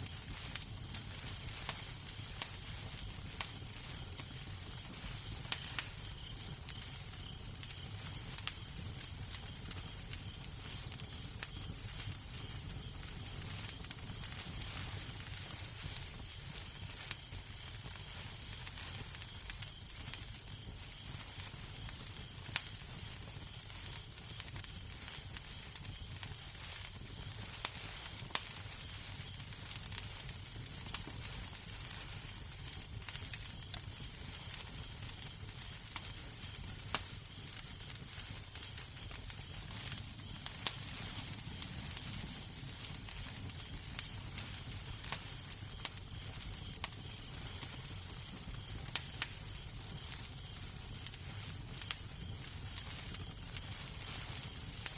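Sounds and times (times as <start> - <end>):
fire popping: 0.0 - 54.9
wood fire crackling: 0.0 - 54.9.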